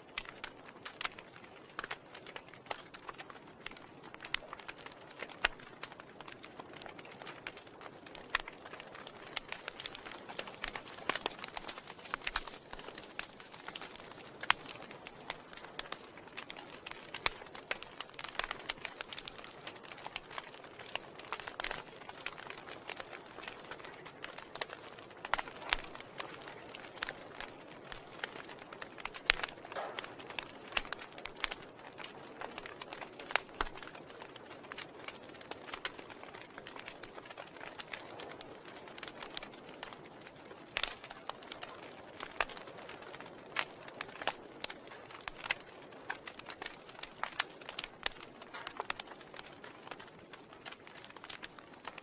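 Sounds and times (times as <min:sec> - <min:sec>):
logs crackling and popping: 0:00.0 - 0:52.0
soft fire hiss: 0:00.0 - 0:52.0.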